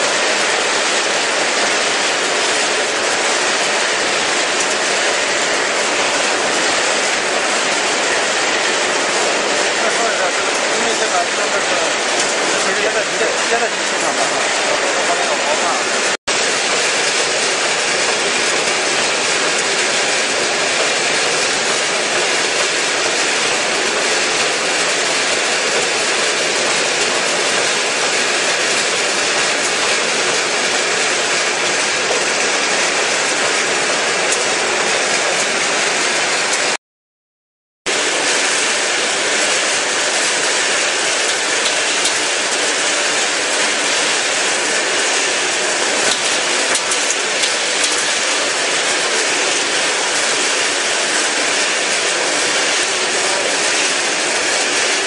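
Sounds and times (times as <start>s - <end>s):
processing machinery running: 0.0s - 36.8s, 37.9s - 55.0s.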